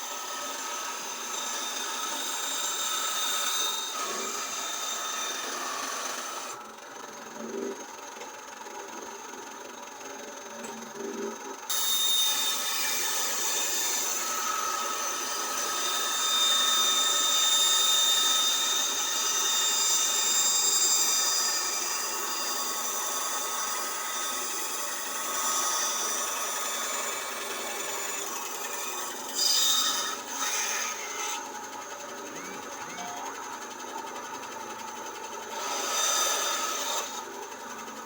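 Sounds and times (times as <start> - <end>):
power tool grinding: 0.0 - 6.7, 11.0 - 38.0.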